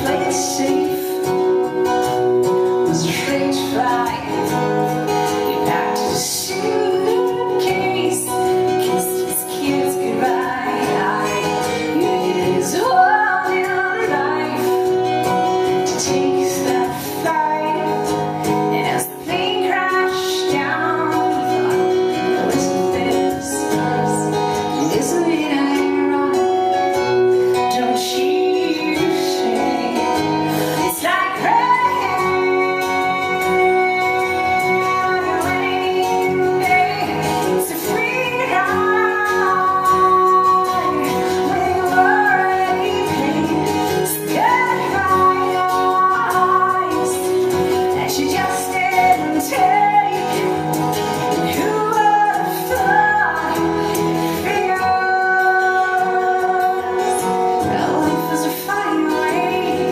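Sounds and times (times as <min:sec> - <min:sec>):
band accompaniment: 0:00.0 - 0:59.9
woman singing: 0:00.0 - 0:59.9.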